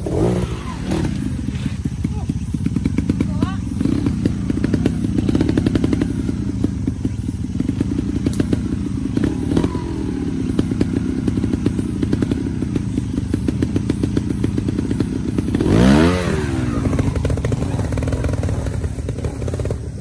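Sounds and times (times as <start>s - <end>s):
motorcycle engine running at low revs: 0.0s - 20.0s.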